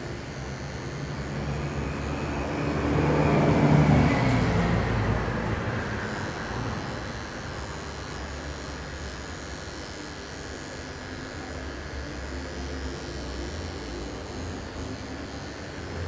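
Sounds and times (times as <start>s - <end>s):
electric hair clippers buzzing: 0.0s - 16.0s.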